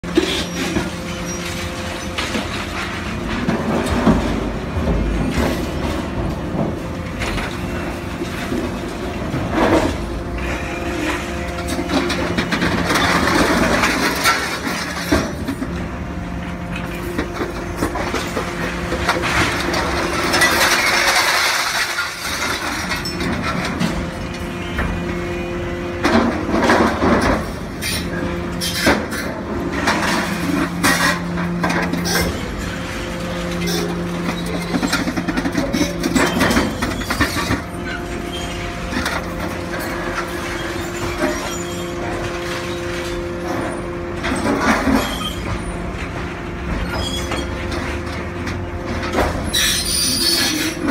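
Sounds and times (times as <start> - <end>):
scrap steel clanking and crashing: 0.0 - 50.9.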